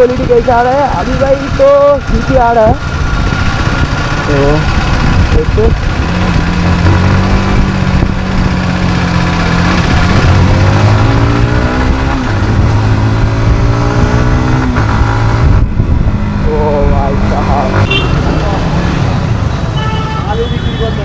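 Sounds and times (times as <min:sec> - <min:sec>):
wind noise on microphone: 0:00.0 - 0:18.0
motorcycle engine accelerating: 0:00.0 - 0:19.8.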